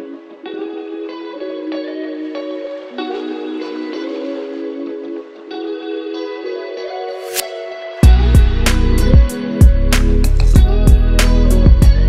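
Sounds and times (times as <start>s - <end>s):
background music with sustained notes: 0.0s - 12.0s.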